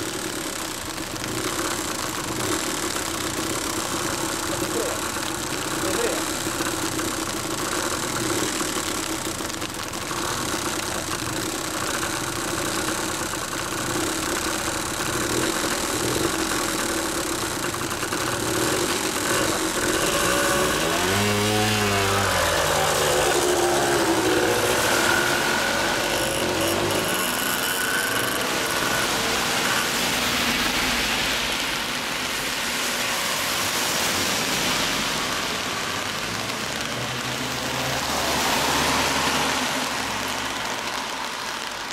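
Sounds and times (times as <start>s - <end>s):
passing traffic: 0.0s - 41.9s
rain hiss: 0.0s - 41.9s
two-stroke motorbike engines revving: 0.0s - 41.9s.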